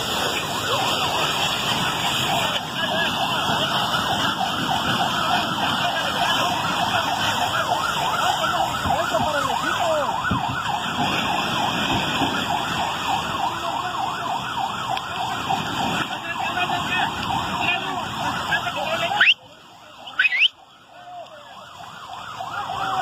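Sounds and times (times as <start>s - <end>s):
emergency sirens yelping: 0.0s - 23.0s
street and engine noise: 0.0s - 23.0s.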